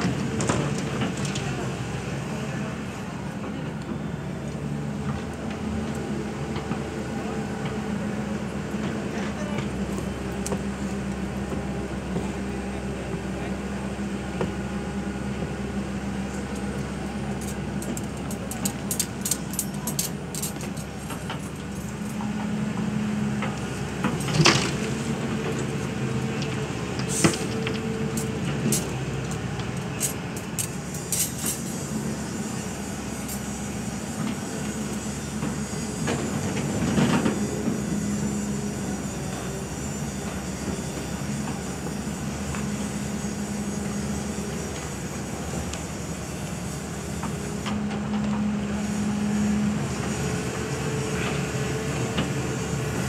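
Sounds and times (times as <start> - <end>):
excavator engine and hydraulics hum: 0.0 - 53.0.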